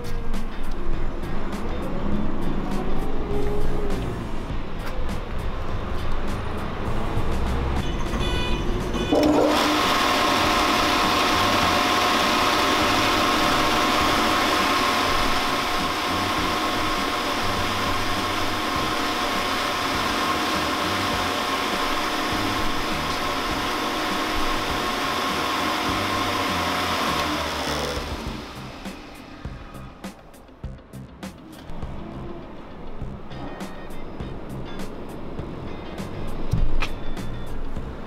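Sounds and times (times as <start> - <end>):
pin mill whining and humming: 0.0 - 30.8.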